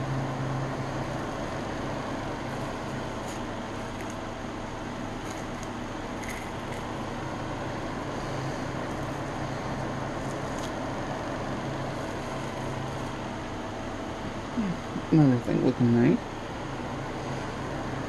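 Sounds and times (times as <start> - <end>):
background hum and hiss: 0.0 - 18.0.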